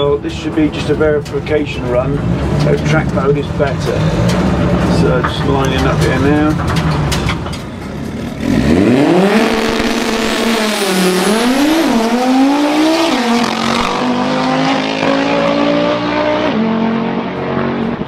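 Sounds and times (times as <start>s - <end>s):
drag racing cars accelerating: 0.0s - 18.0s.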